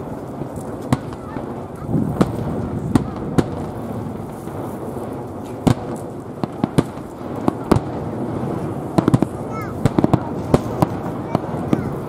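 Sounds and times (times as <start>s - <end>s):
fireworks booms and cracks: 0.0s - 12.0s
steady background noise: 0.0s - 12.0s.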